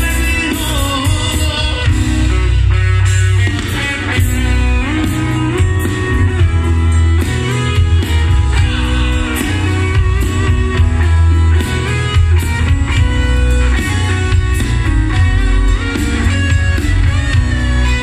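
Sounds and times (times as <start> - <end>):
electric guitar: 0.0 - 18.0
live band playing: 0.0 - 18.0.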